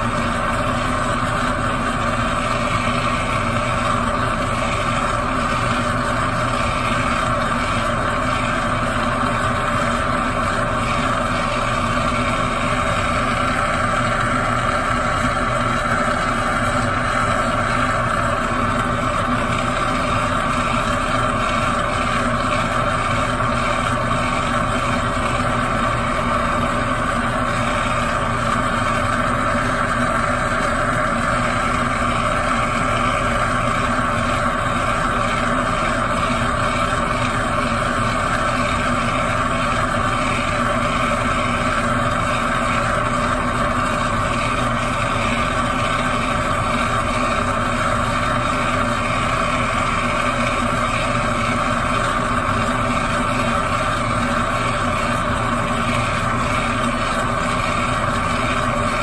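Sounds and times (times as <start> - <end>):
gas torch flame rushing: 0.0 - 59.0.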